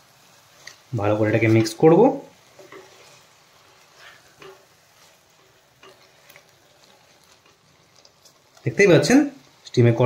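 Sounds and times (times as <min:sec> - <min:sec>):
low sizzle: 0:00.0 - 0:10.0
spatula scraping pan: 0:00.6 - 0:09.8.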